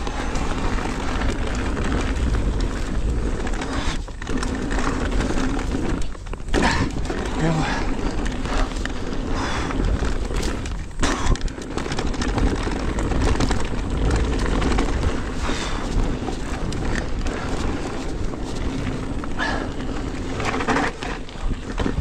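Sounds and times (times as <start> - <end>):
bike knocks and rattles: 0.0 - 22.0
tyres rumbling over dirt: 0.0 - 22.0
wind on microphone: 0.0 - 22.0.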